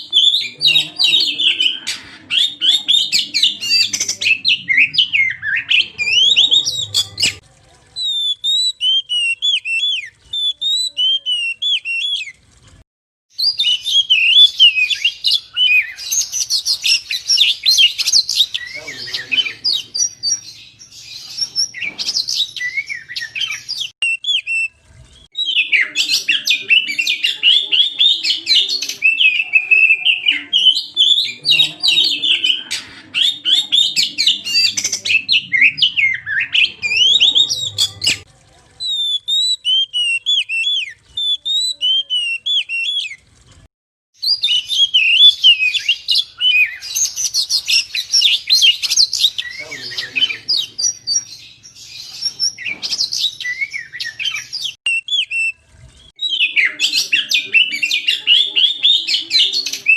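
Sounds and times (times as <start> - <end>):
bird singing: 0.0 - 7.4, 13.4 - 38.3, 44.2 - 59.9.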